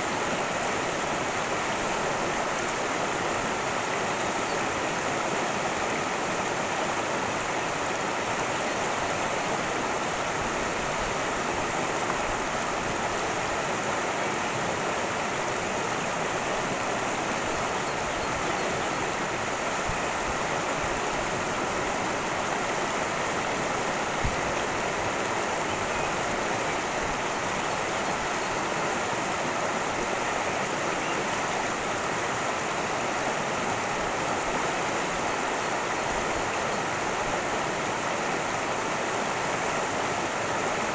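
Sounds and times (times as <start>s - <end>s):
cascading stream rushing: 0.0s - 40.9s.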